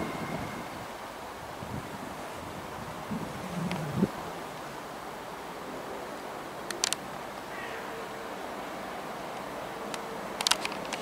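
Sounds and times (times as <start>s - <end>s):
approaching train noise: 0.0s - 11.0s.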